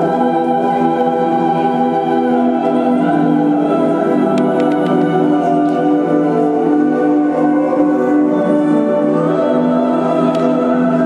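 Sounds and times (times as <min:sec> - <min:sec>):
music with held notes: 0:00.0 - 0:11.0.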